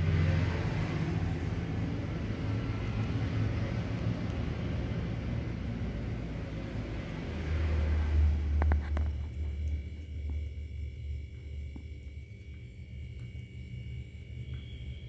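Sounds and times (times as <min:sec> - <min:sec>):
low hum: 0:00.0 - 0:15.0
low rumbling background noise: 0:00.0 - 0:15.0.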